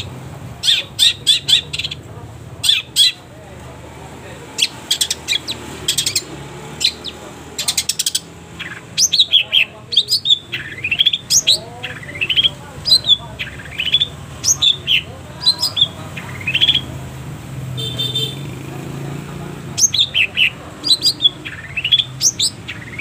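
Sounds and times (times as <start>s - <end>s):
shrike singing: 0.0s - 23.0s.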